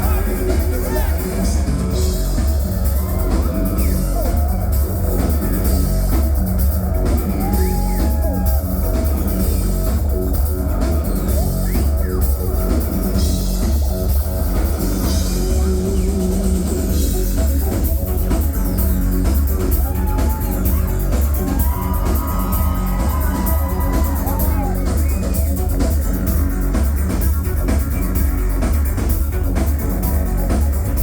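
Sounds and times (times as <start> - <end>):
drum kit: 0.0 - 31.0
heavy bass: 0.0 - 31.0.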